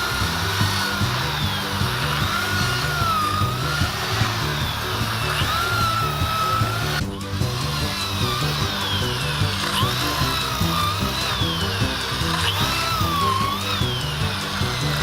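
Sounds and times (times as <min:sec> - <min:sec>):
background music: 0:00.0 - 0:15.0
cordless drill boring into wood: 0:00.0 - 0:15.0.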